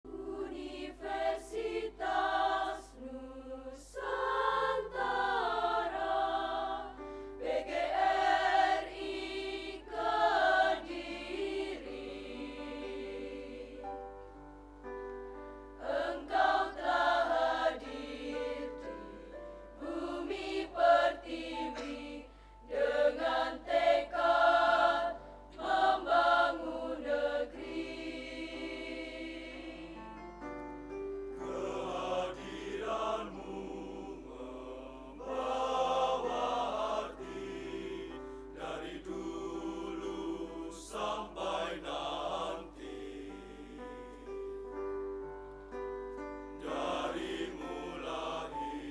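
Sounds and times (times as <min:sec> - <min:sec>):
mixed choir singing a hymn: 0:00.0 - 0:14.2, 0:15.7 - 0:30.2, 0:31.4 - 0:44.7, 0:46.6 - 0:48.9.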